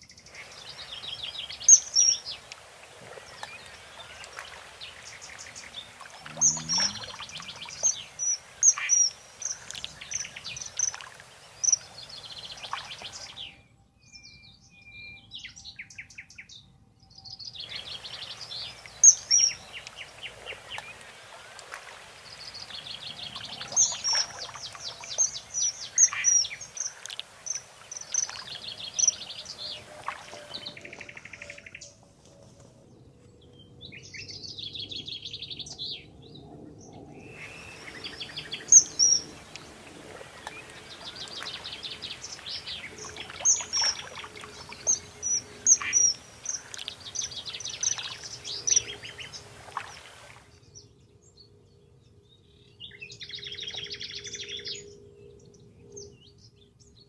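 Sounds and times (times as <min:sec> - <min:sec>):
songbirds trilling and chirping: 0:00.0 - 0:57.0.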